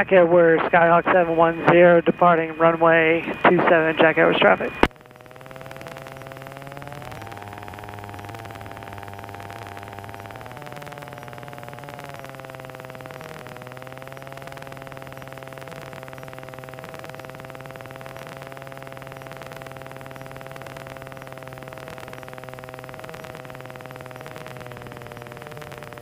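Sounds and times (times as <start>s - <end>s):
aircraft engine and propeller drone: 0.0s - 26.0s.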